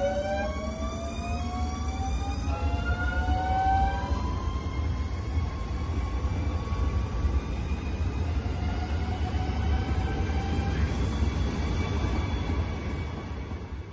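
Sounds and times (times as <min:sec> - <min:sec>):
high-pitched train whine: 0:00.0 - 0:13.9
train rumbling past: 0:00.0 - 0:13.9.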